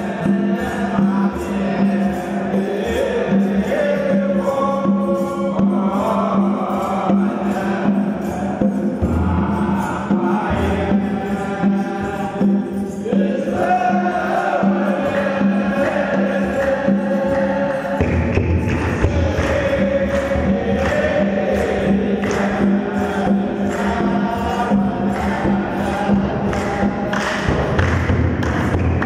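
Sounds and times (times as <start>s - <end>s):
hand drum beating: 0.0s - 29.0s
men chanting in unison: 0.0s - 29.0s.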